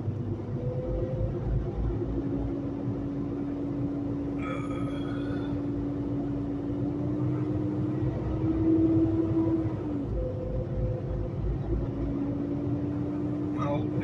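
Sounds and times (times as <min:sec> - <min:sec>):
truck diesel engine drone: 0:00.0 - 0:14.0.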